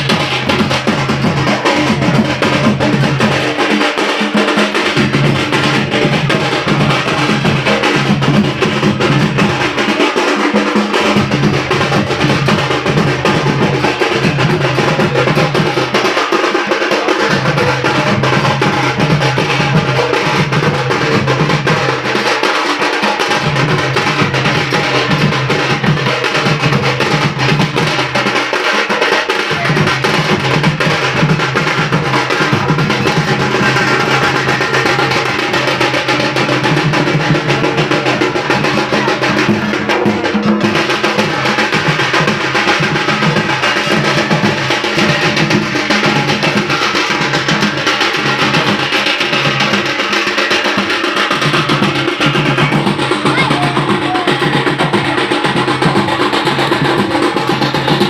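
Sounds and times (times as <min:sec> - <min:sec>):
fast folk drumming: 0:00.0 - 0:58.0.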